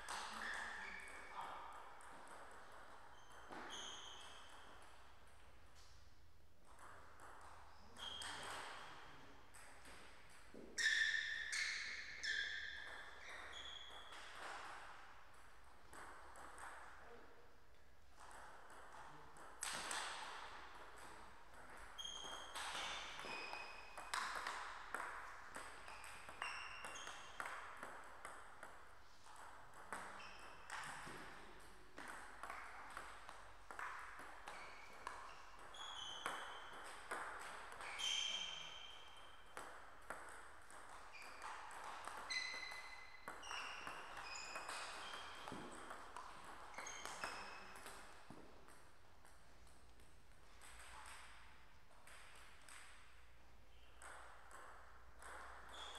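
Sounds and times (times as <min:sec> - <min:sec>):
table tennis ball hits: 0:00.0 - 0:05.4, 0:06.6 - 0:17.0, 0:18.2 - 0:53.2, 0:54.0 - 0:55.9.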